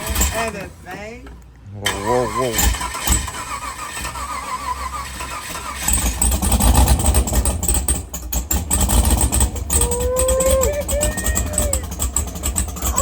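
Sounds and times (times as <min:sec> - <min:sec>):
car engine starting and running: 0:00.0 - 0:13.0.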